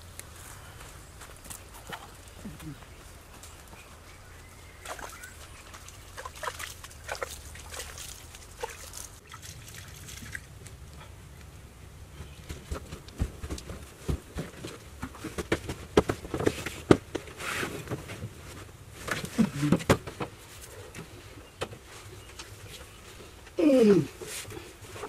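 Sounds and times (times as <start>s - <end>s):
bare feet on packed earth: 0.0s - 25.0s.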